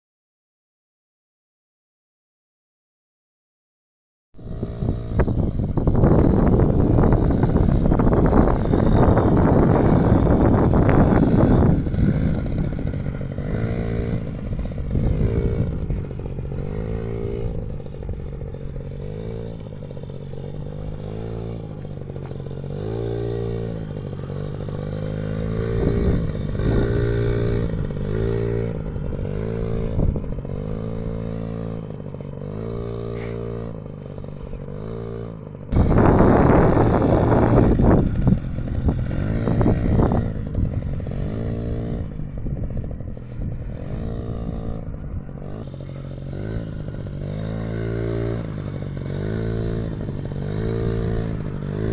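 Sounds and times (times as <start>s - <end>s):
dirt bike engine revving: 4.4s - 51.9s
loud rough sound: 4.4s - 51.9s.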